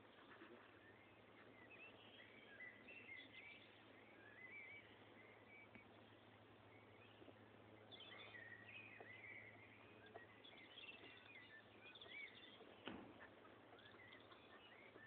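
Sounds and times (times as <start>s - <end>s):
birds chirping and warbling: 0.0s - 15.0s
low steady hum: 0.0s - 15.0s.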